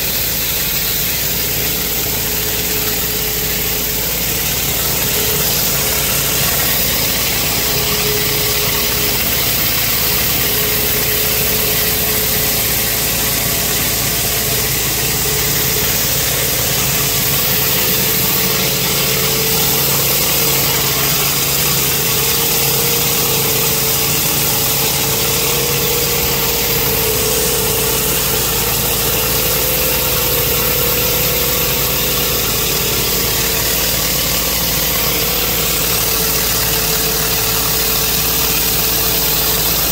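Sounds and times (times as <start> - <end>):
high-pressure water hissing on concrete: 0.0 - 39.9
pressure washer engine hum: 0.0 - 39.9.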